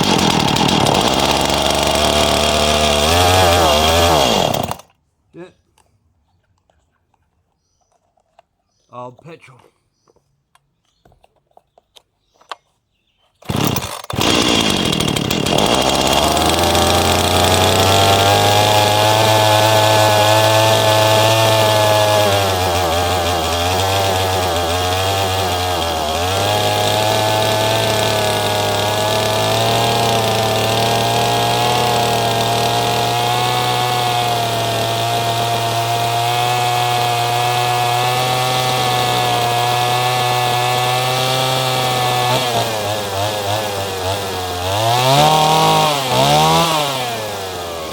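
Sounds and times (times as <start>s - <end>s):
chainsaw running: 0.0s - 5.0s, 13.4s - 47.9s.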